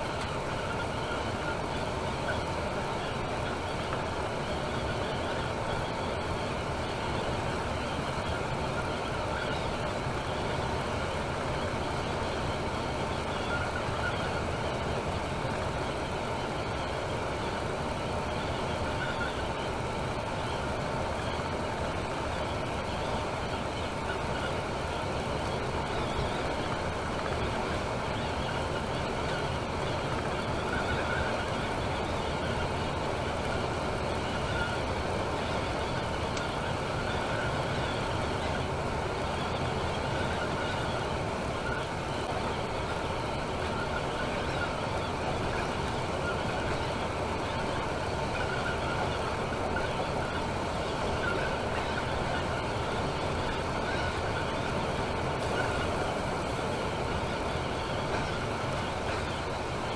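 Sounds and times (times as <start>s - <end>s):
coach engine drone: 0.0s - 59.9s.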